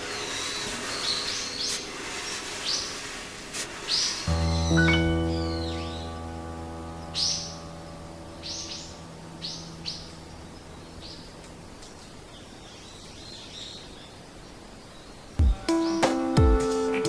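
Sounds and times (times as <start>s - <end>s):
music held notes: 0.0s - 12.3s, 15.4s - 17.0s
faint outdoor hiss: 0.0s - 17.0s
small songbird chirping: 0.0s - 17.0s.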